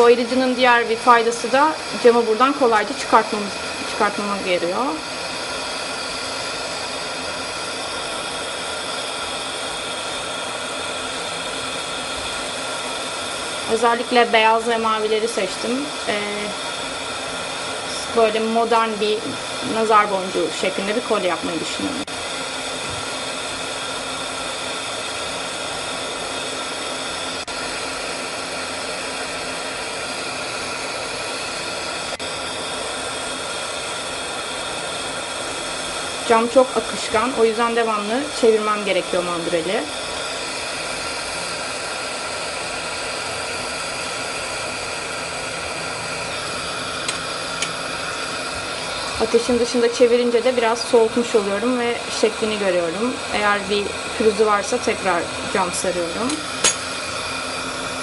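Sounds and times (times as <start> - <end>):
torch hissing: 0.0 - 58.0.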